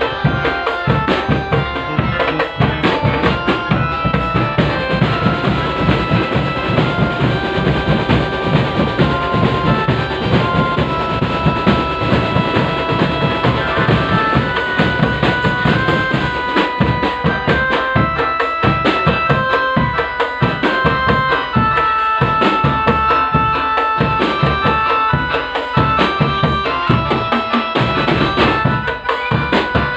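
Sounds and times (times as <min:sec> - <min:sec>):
drum band music: 0:00.0 - 0:29.9.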